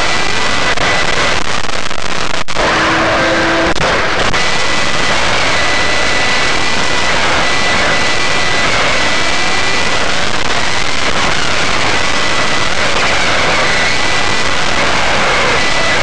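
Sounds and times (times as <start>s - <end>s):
high steady whine: 0.0s - 16.0s
loud steady rushing noise: 0.0s - 16.0s.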